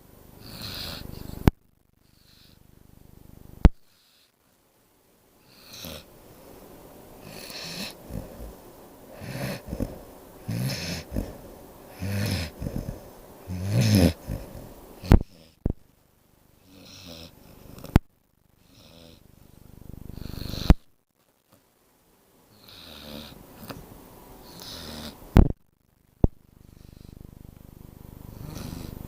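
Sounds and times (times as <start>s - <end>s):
pet snoring: 0.0s - 4.4s, 5.4s - 6.6s, 7.2s - 15.8s, 16.6s - 18.0s, 18.6s - 20.9s, 22.5s - 25.6s, 26.6s - 29.0s.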